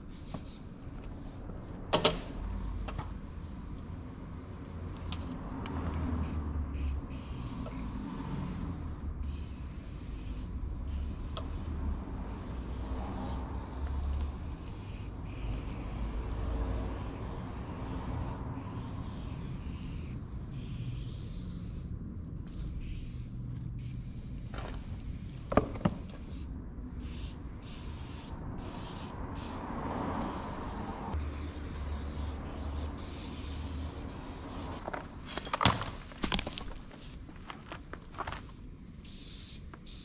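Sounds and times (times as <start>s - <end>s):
spray paint can hissing: 0.0s - 1.6s, 2.3s - 40.0s.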